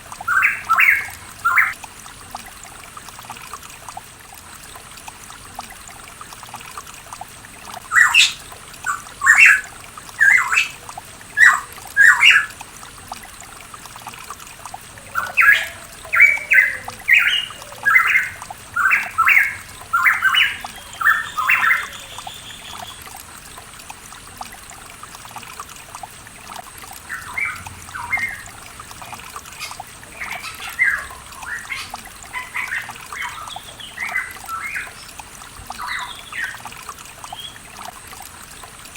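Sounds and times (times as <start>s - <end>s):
trickling stream: 0.0s - 38.9s.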